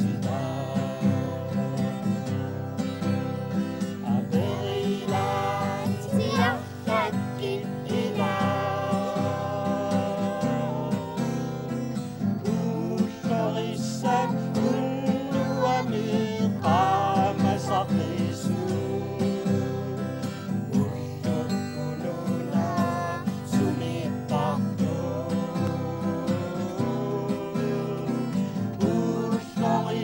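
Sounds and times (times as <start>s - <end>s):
woman and children singing: 0.0s - 2.5s, 3.9s - 30.0s
acoustic guitar strumming: 0.0s - 30.0s.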